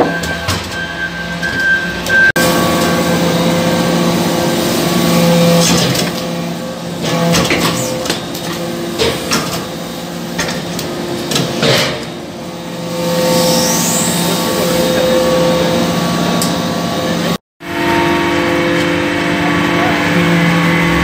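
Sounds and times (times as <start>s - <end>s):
hydraulic press humming: 0.0s - 21.0s.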